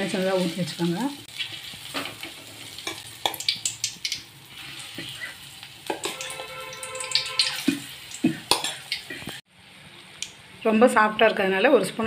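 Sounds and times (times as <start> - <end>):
fritters deep-frying in oil: 0.0 - 12.0.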